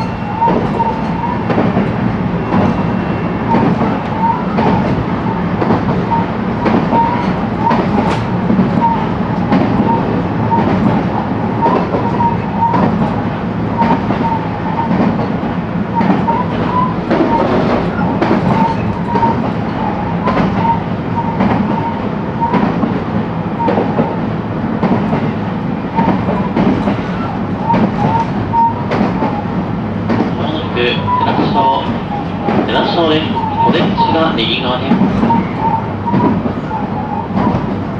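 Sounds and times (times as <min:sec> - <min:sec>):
wheels clacking over rail joints: 0:00.0 - 0:24.2, 0:24.8 - 0:37.9
train wheels rumbling on track: 0:00.0 - 0:37.9.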